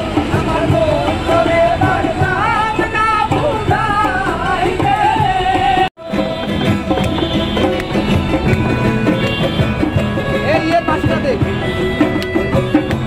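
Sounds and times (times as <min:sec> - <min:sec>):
acoustic guitar: 0:00.0 - 0:13.0
banjo: 0:00.0 - 0:13.0
dhol drum: 0:00.0 - 0:13.0.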